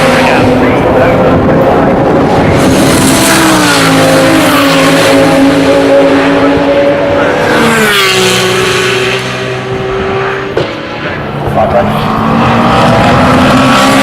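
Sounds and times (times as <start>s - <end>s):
race car engine: 0.0s - 14.0s.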